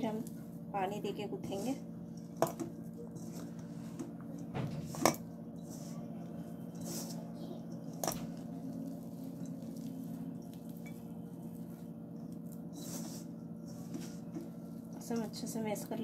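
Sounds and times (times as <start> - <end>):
hands mixing food rustling: 0.0 - 16.0
low steady hum: 0.0 - 16.0.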